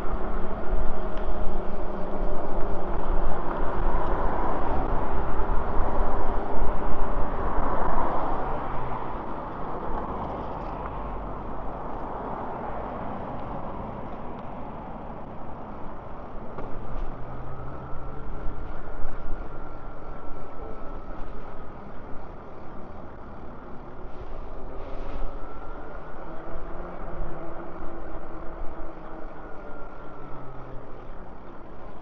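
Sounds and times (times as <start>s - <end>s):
passing traffic: 0.0s - 32.0s
tyre and road noise: 0.0s - 32.0s
wind rushing over microphone: 0.0s - 32.0s.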